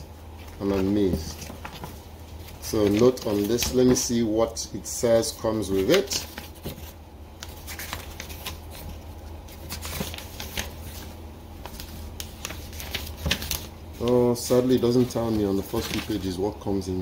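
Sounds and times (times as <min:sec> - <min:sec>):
low steady hum: 0:00.0 - 0:17.0
paper pages turning: 0:00.3 - 0:04.3, 0:05.1 - 0:16.4.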